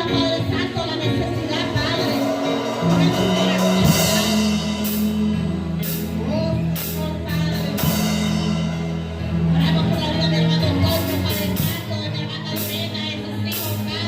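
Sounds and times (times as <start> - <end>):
worship music with drums and keyboard: 0.0 - 14.0.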